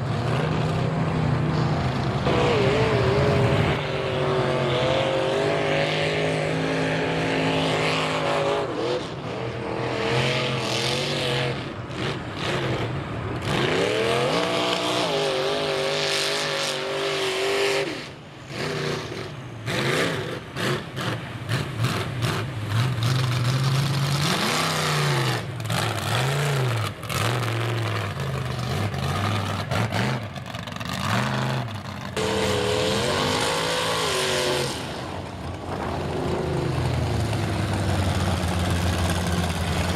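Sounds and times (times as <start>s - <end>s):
truck engines revving hard: 0.0s - 39.9s.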